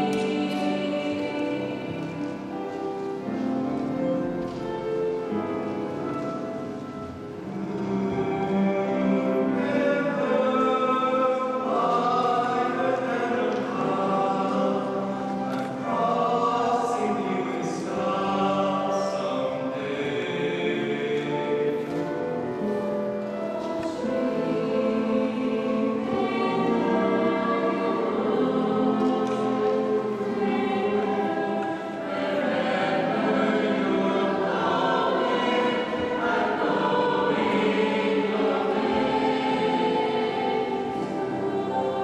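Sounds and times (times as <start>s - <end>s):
vocal ensemble singing in harmony: 0.0s - 4.2s, 7.2s - 42.0s.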